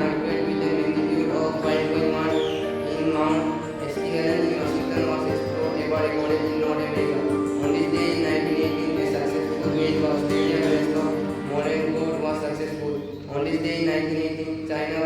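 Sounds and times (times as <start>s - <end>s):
slow melody of long notes: 0.0s - 14.6s.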